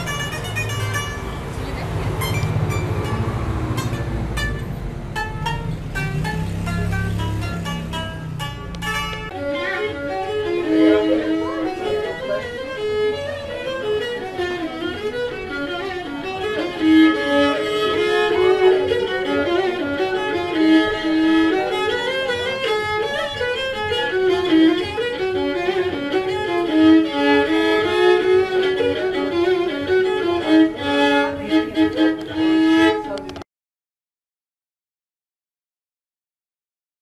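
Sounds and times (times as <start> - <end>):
bowed string instrument melody: 0.0 - 33.4.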